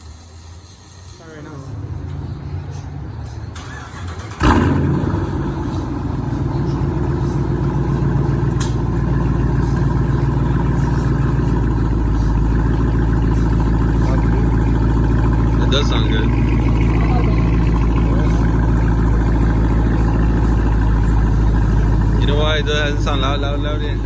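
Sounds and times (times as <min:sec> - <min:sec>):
car engine starting: 0:00.0 - 0:24.0
deep engine idle: 0:00.0 - 0:24.0.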